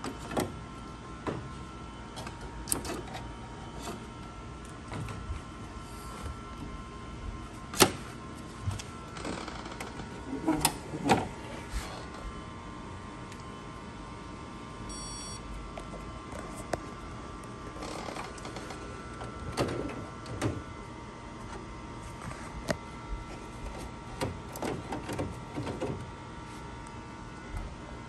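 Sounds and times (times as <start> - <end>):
steady hum with held tones: 0.0 - 28.0.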